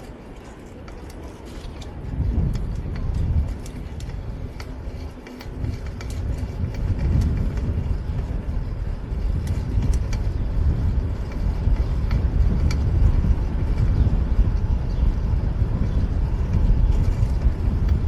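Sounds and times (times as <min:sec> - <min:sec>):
light clicks and ticks: 0:00.0 - 0:14.0, 0:16.5 - 0:18.0
wind rumble: 0:00.0 - 0:18.0.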